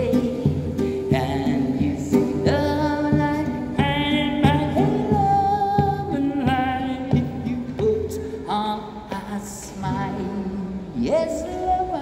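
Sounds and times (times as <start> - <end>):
classical guitar strumming: 0.0 - 10.7
man singing: 0.0 - 12.0.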